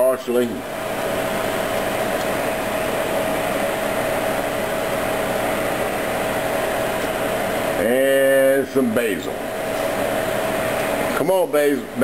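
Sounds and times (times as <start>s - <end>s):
fan motor humming: 0.0s - 12.0s.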